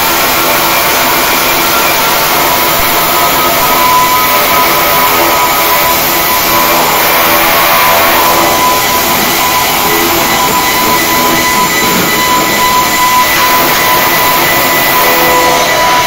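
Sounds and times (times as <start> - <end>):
steady noise with high tone: 0.0 - 16.0.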